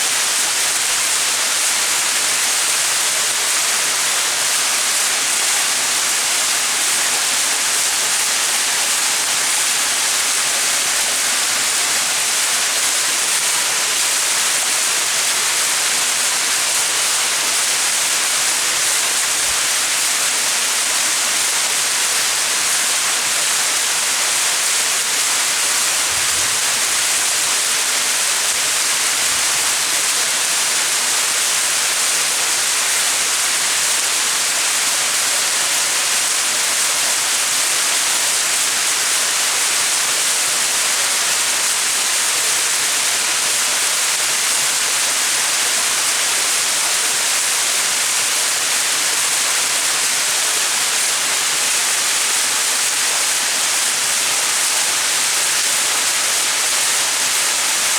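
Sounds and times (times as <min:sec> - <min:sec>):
waterfall splashing: 0:00.0 - 0:57.9.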